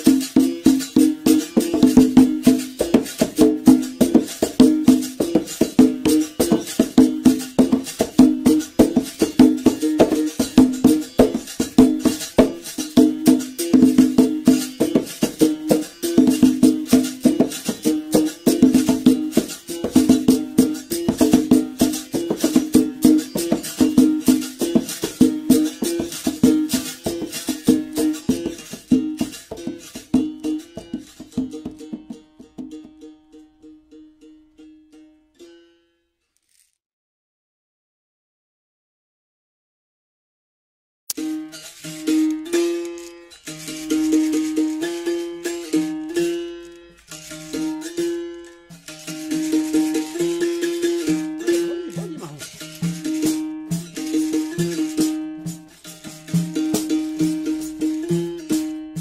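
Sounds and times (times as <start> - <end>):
basket rattle shaking: 0.0 - 32.2, 36.4 - 36.8, 41.1 - 59.0
berimbau playing: 0.0 - 35.8, 41.1 - 59.0.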